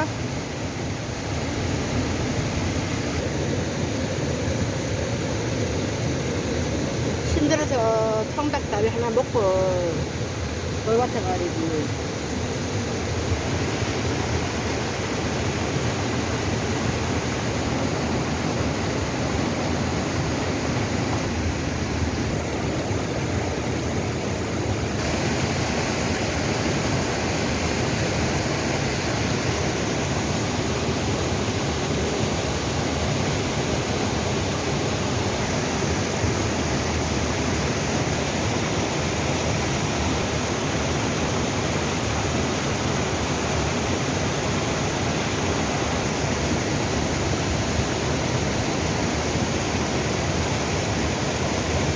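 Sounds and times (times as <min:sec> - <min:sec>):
stream water rushing over rocks: 0:00.0 - 0:51.9.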